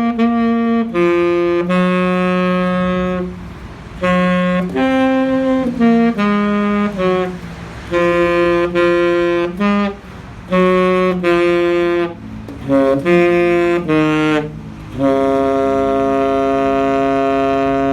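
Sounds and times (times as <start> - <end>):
saxophone melody: 0.0 - 17.9.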